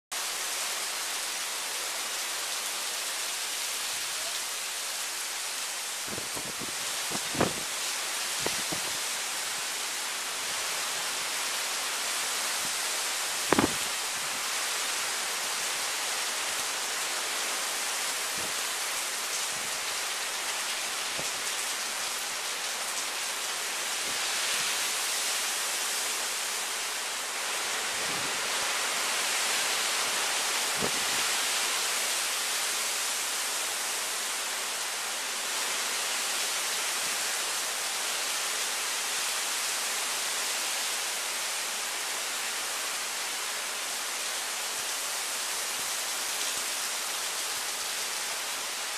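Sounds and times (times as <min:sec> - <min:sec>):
heavy wind-driven rain: 0:00.1 - 0:48.9.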